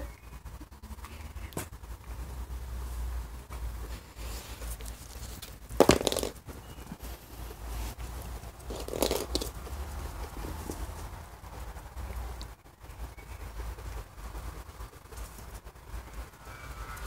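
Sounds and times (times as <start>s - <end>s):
rustling and crinkling: 0.0s - 17.0s.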